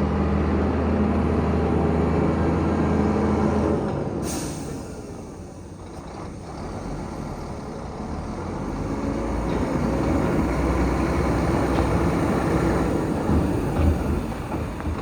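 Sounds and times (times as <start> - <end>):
truck diesel engine running: 0.1 - 15.0.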